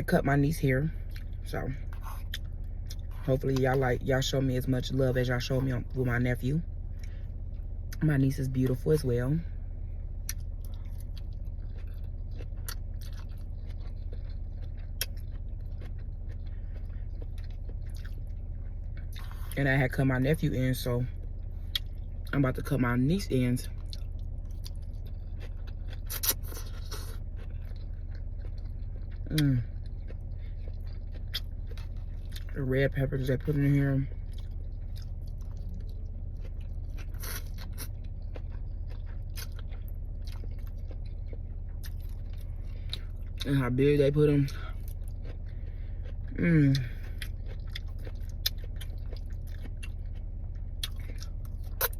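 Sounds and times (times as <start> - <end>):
person chewing food: 0.0 - 51.9
steady low hum: 0.0 - 51.9.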